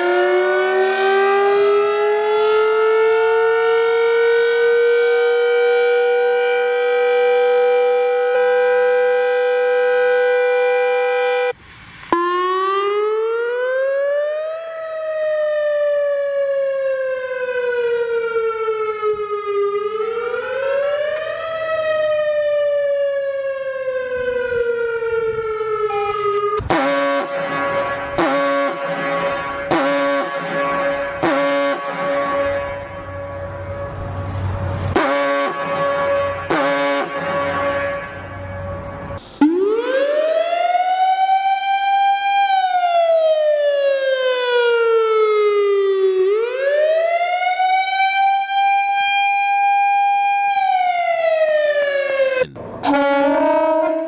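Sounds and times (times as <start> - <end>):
warning siren blasts: 0.0 - 54.0.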